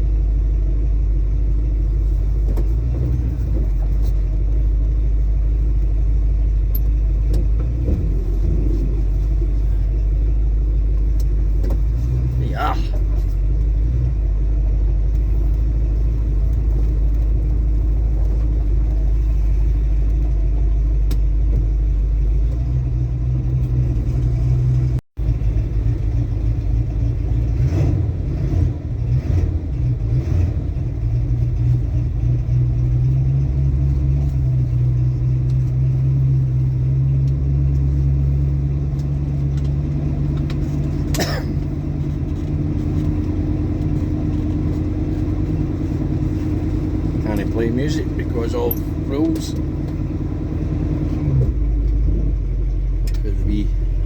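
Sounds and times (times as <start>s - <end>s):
car engine and exhaust: 0.0s - 54.0s.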